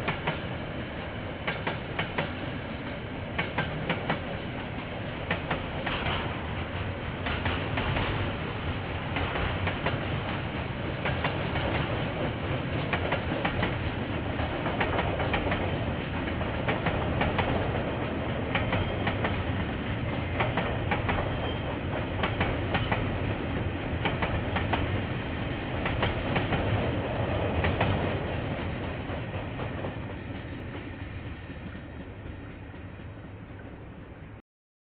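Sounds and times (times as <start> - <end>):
train wheels clicking over rail joints: 0.0 - 0.6, 1.2 - 33.4.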